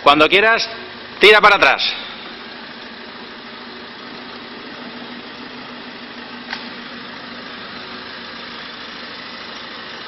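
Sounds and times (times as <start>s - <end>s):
van engine idling: 0.0s - 10.0s.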